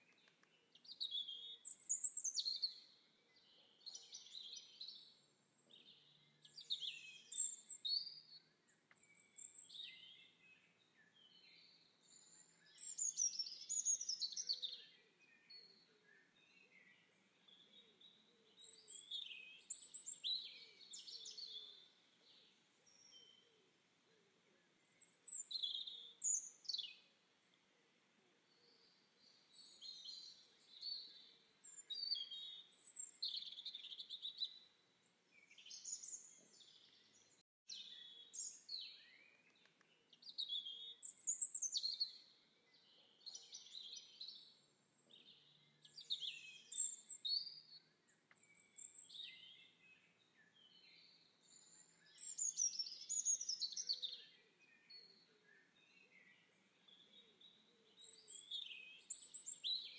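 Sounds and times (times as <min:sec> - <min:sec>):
small birds singing: 0:00.0 - 0:59.9.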